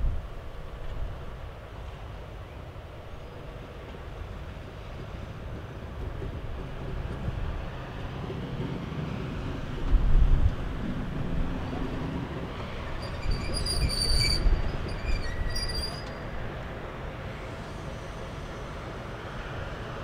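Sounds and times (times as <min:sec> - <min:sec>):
diesel locomotive rumble: 0:00.0 - 0:20.0.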